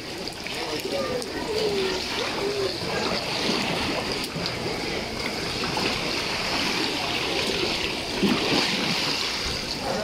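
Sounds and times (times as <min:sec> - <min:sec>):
rushing water: 0:00.0 - 0:10.0
water splashing and sloshing: 0:00.0 - 0:10.0.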